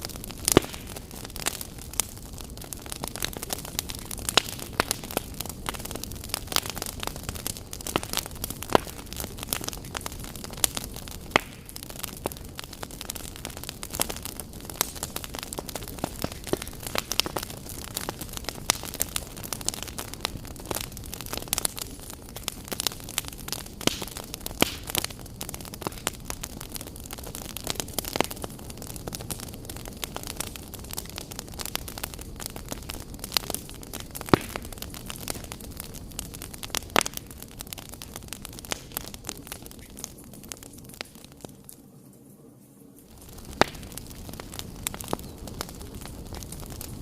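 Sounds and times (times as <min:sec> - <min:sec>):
wood fire crackling: 0:00.0 - 0:47.0
sharp pops and snaps: 0:00.3 - 0:02.1, 0:03.2 - 0:12.8, 0:13.4 - 0:26.5, 0:32.4 - 0:41.8, 0:43.2 - 0:47.0.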